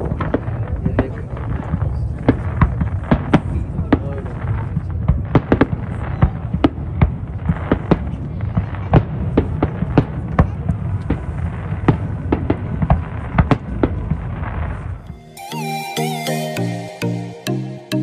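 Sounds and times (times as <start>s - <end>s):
fireworks bangs: 0.0s - 15.6s.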